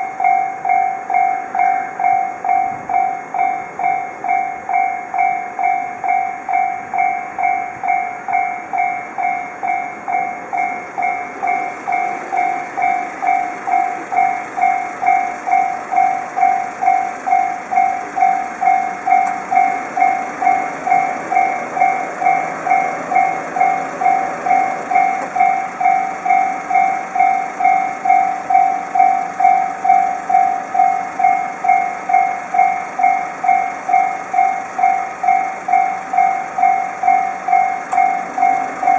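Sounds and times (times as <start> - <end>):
level crossing warning bell: 0.0 - 38.9
train passing rumble: 0.0 - 38.9.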